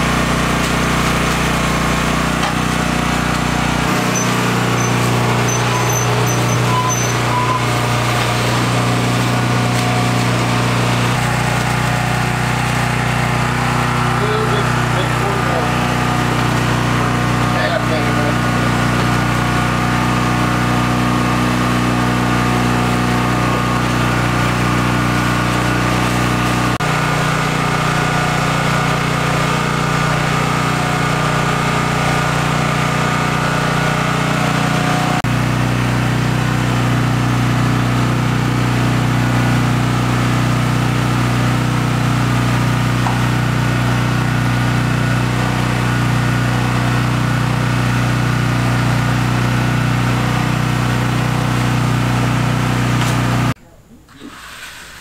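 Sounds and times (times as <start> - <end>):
small engine running: 0.0 - 53.6.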